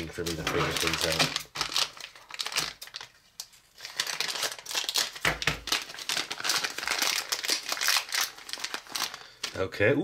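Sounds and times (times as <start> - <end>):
foil packet crinkling: 0.0 - 9.6.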